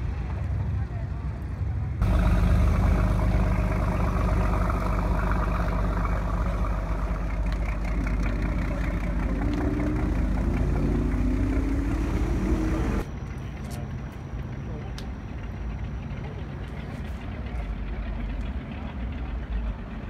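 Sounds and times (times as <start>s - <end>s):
motorboat engine running: 1.6s - 20.0s.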